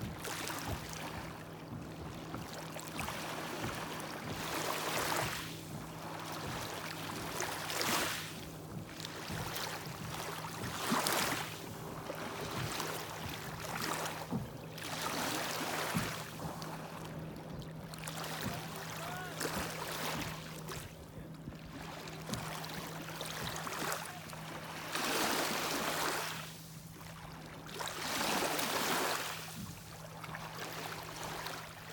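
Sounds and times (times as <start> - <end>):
steady low hum: 0.0 - 28.9
lake waves washing on shore: 0.0 - 31.9.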